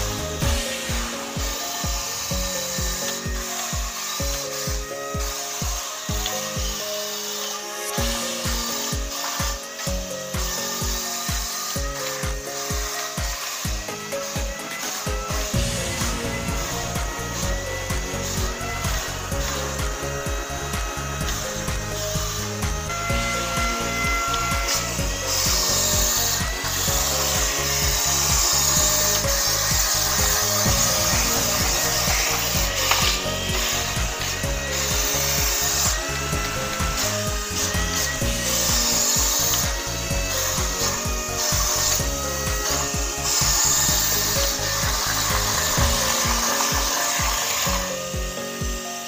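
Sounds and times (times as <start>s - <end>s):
music with steady beat: 0.0s - 49.0s
suction fan whirring: 0.0s - 49.0s.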